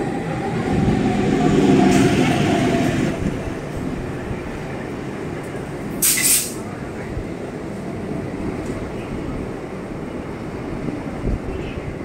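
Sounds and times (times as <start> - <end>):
train carriages rolling past: 0.0 - 12.0.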